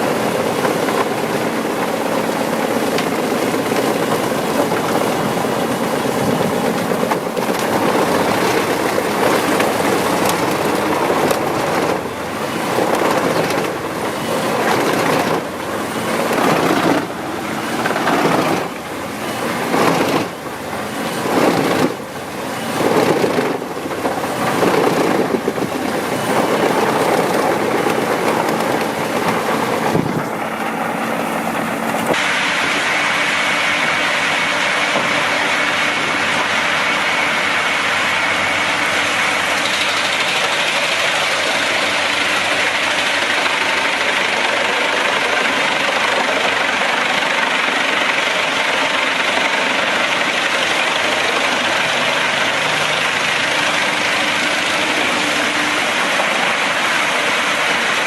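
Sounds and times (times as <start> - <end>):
wood chipper running: 0.0 - 58.0.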